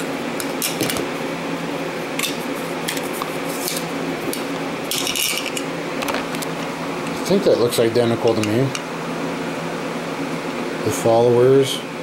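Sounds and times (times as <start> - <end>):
fan hum: 0.0 - 12.0.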